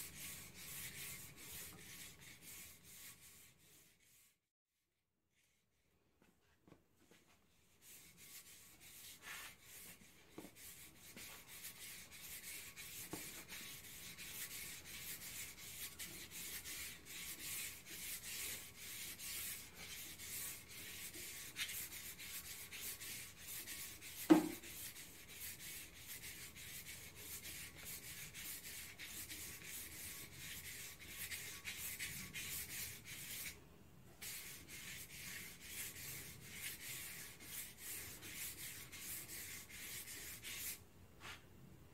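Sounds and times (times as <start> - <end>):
sanding sponge scratching on rim: 0.0 - 4.4, 7.8 - 33.6, 34.2 - 40.8.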